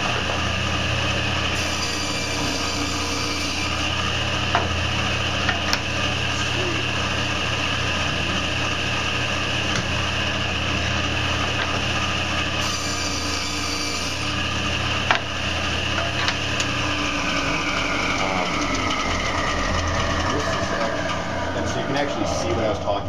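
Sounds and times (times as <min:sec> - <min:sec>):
table saw cutting wood: 0:00.0 - 0:22.9.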